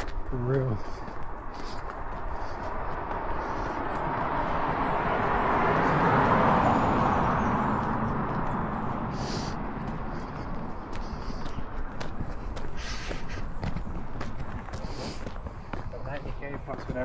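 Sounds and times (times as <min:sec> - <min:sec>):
car driving past: 0:01.3 - 0:15.2.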